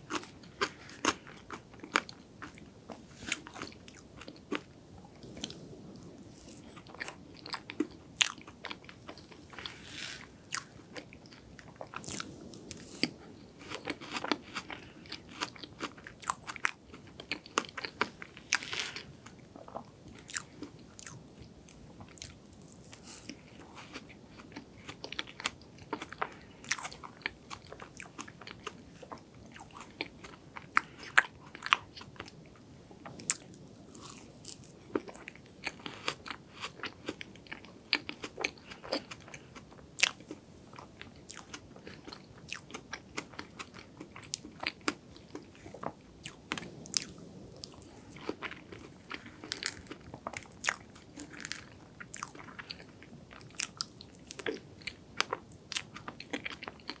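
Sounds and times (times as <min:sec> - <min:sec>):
chewing cake: 0:00.0 - 0:57.0.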